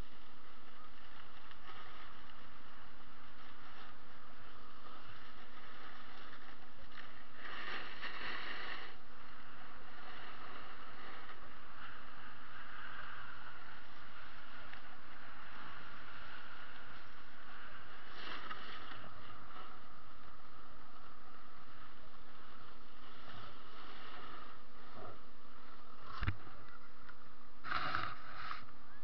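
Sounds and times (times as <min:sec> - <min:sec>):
snowboard edge scrape: 0:00.0 - 0:26.6, 0:27.6 - 0:28.7
snowboard scraping over snow: 0:00.0 - 0:26.6, 0:27.6 - 0:28.7.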